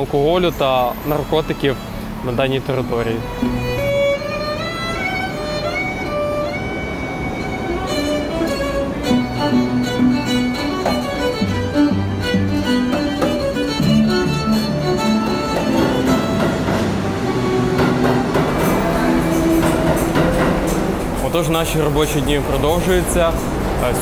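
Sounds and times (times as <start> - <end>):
string ensemble playing: 0.0 - 24.0
subway train rumble: 0.0 - 24.0.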